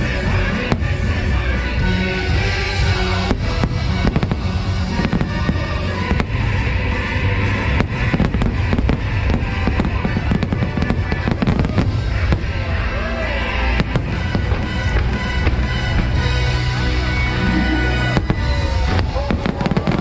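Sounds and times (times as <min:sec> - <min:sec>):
fireworks bangs: 0:00.0 - 0:20.0
music soundtrack: 0:00.0 - 0:20.0.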